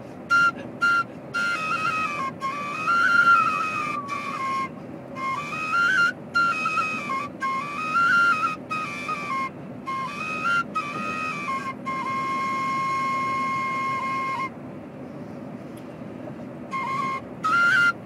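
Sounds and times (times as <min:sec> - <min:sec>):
cane flute playing: 0:00.0 - 0:14.6, 0:16.6 - 0:18.0
car road noise: 0:00.0 - 0:18.0.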